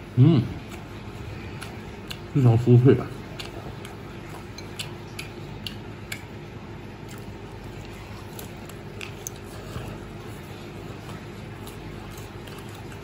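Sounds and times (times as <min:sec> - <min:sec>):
steady low hum: 0:00.0 - 0:13.0
crunchy chewing: 0:00.5 - 0:13.0.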